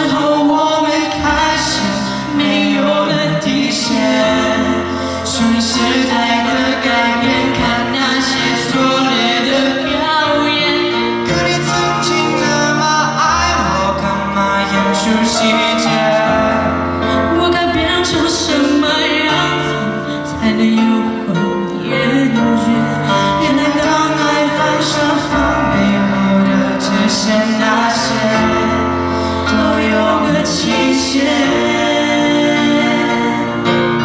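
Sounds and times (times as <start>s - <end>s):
man and woman singing duet: 0.0s - 34.0s.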